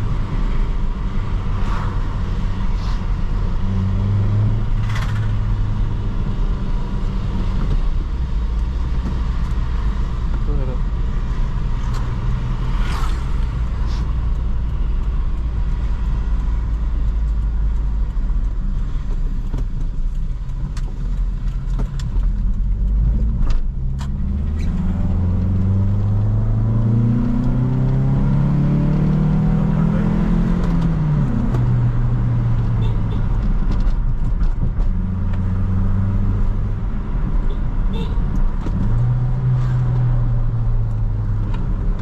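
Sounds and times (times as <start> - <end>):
car engine revving: 0.0 - 20.3, 21.1 - 42.0
road noise: 0.0 - 42.0.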